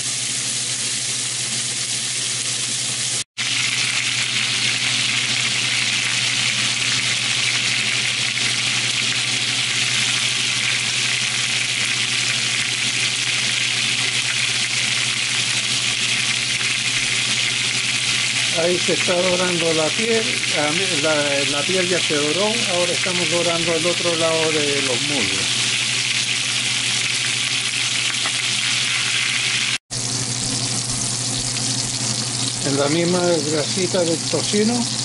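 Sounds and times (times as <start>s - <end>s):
chicken sizzling in a skillet: 0.0s - 35.0s.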